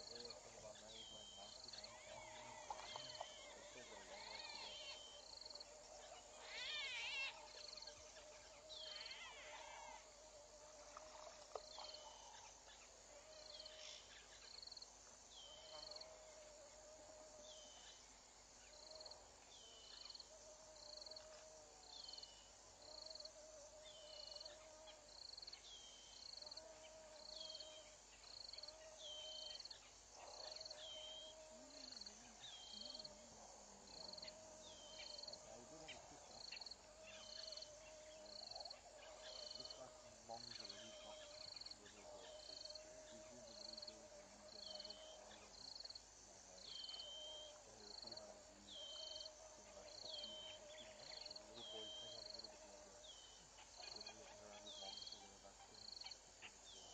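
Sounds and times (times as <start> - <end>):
low steady animal call: 0.0 - 56.9.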